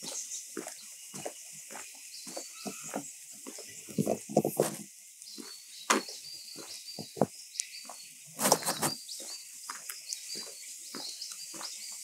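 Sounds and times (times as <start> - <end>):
footsteps on wet path: 0.0 - 12.0.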